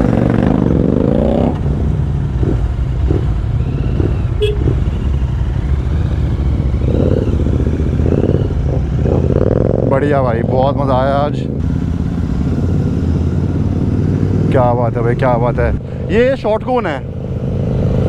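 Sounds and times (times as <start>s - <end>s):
motorcycle pulling away: 0.0s - 16.0s.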